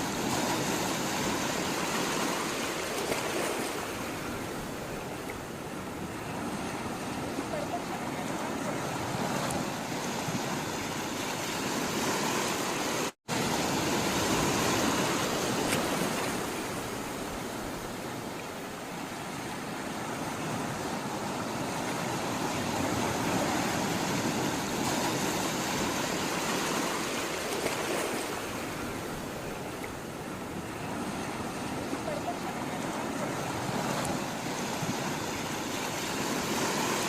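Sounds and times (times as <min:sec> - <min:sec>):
flowing sea water: 0:00.0 - 0:37.0.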